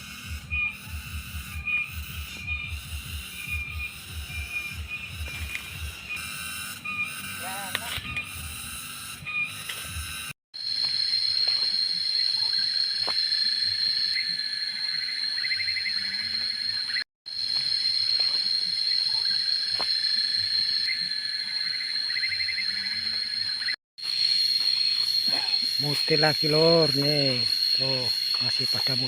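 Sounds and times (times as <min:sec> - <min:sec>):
insects shrilling: 0:00.0 - 0:29.0.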